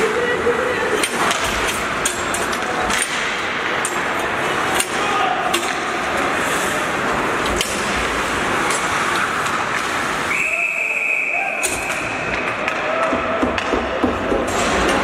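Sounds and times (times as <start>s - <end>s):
hockey sticks clacking on puck: 0.9s - 10.3s, 11.6s - 15.0s.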